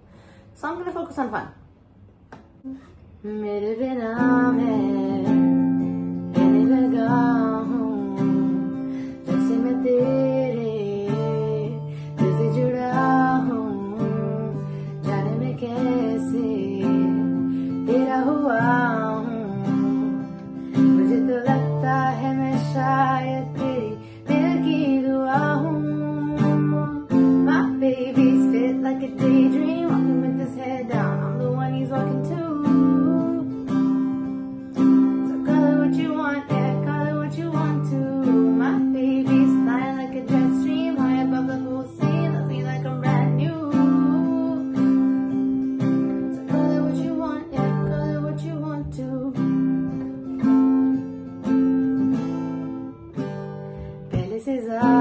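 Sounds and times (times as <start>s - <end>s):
woman singing: 2.6s - 55.0s
acoustic guitar strumming chords: 3.9s - 55.0s.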